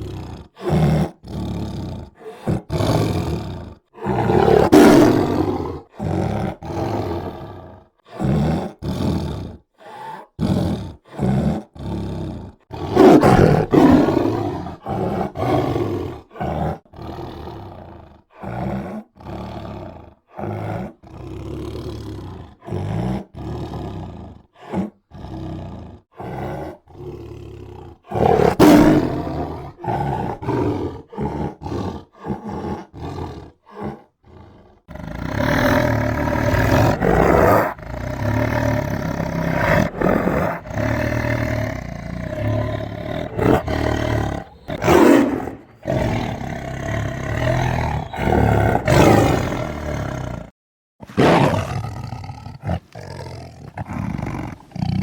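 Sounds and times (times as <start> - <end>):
tiger roaring: 0.0 - 55.0.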